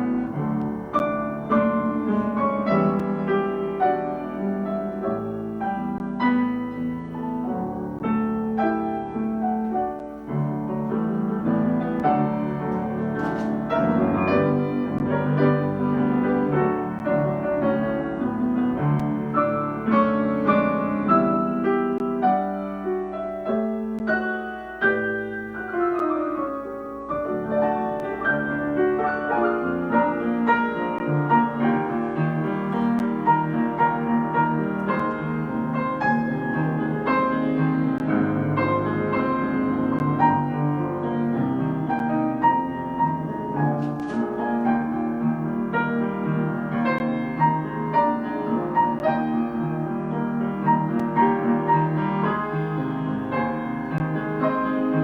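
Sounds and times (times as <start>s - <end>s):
classical piano piece: 0.0s - 55.0s.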